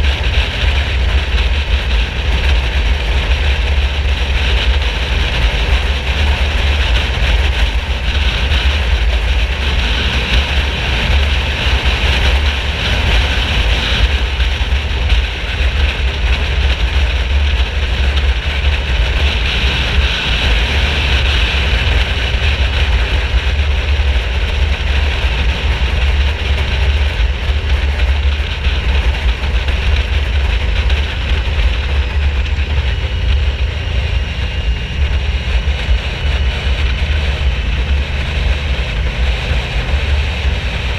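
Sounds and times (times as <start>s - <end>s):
motorcycle engine running: 0.0s - 40.9s
steady rushing noise: 0.0s - 40.9s.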